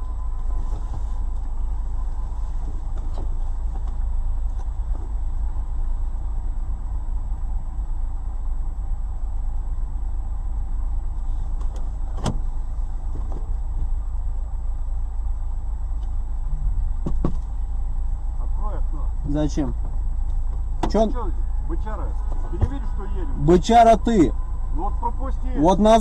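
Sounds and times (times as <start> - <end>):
car idling from inside: 0.0 - 26.0.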